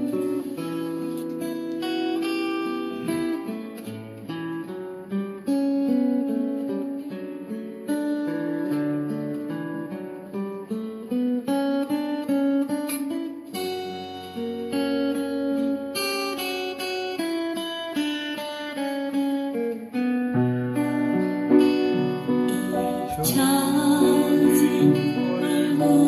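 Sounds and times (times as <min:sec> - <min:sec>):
acoustic guitar tune: 0:00.0 - 0:26.0.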